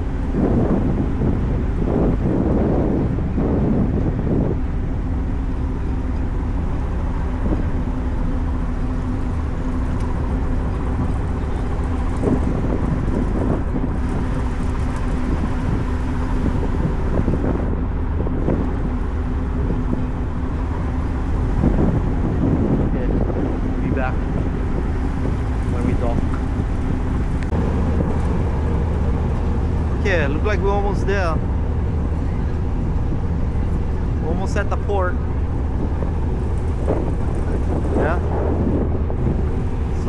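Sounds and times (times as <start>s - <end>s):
ferry engine drone: 0.0s - 40.0s
wind rumbling on microphone: 0.0s - 40.0s.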